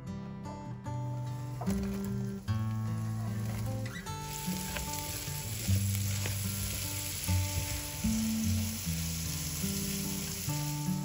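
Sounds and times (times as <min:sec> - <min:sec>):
onion sizzling in hot oil: 0:01.2 - 0:11.0.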